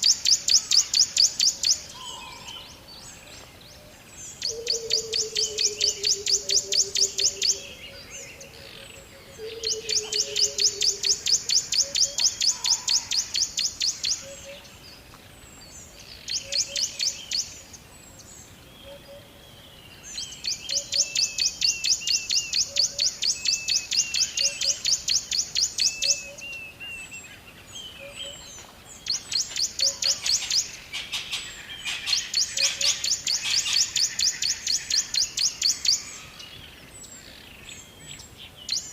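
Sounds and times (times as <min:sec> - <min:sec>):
birds chirping in fast trills: 0:00.0 - 0:38.9.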